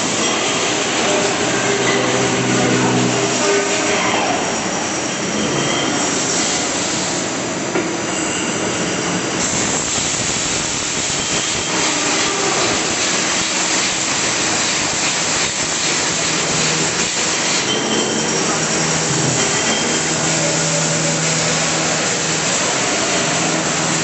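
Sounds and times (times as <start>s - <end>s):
machine shop din: 0.0s - 24.0s.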